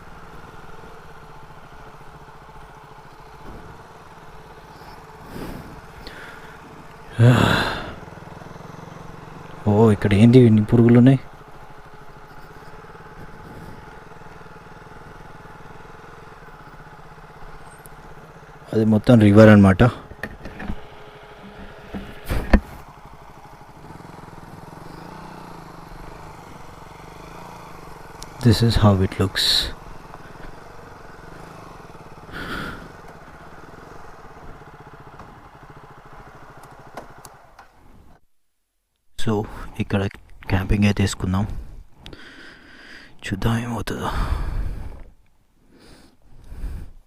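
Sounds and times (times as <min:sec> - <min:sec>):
motorcycle engine running: 0:00.0 - 0:38.2, 0:40.4 - 0:45.2.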